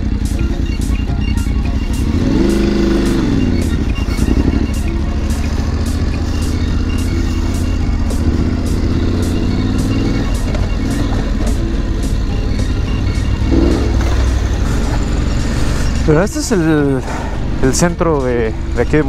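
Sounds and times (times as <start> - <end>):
background music with steady beat: 0.0 - 19.0
motorcycle engine revving: 0.0 - 19.0.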